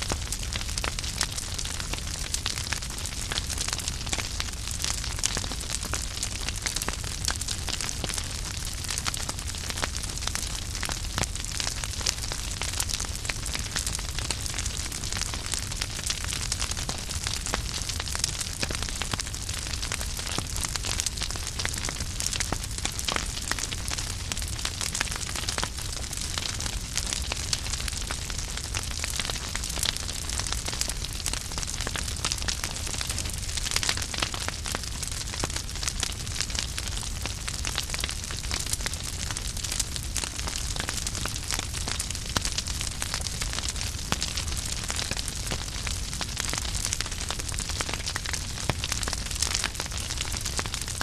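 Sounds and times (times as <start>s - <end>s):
hiss and rumble of flames: 0.0s - 51.0s
wood fire crackling and popping: 0.1s - 51.0s.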